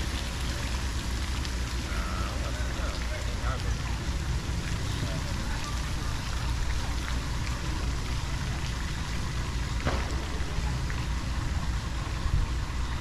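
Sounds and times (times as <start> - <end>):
low street rumble: 0.0 - 13.0
noisy hiss: 0.0 - 13.0.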